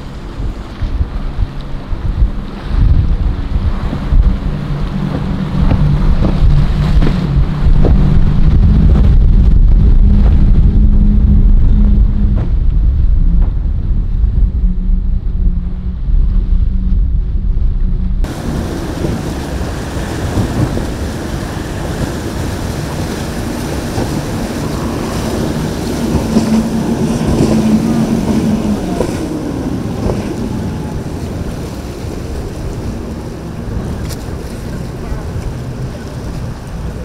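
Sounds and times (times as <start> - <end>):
boat engines: 0.0 - 37.0
rough waves: 0.0 - 37.0
wind buffeting microphone: 0.0 - 37.0.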